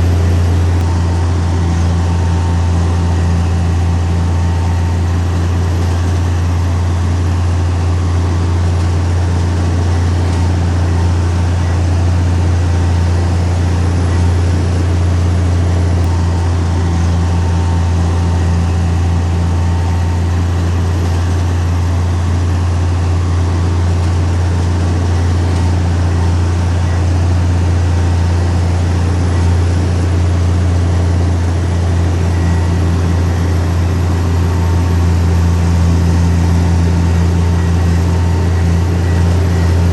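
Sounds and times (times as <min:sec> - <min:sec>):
heavy diesel machinery hum: 0:00.0 - 0:39.9.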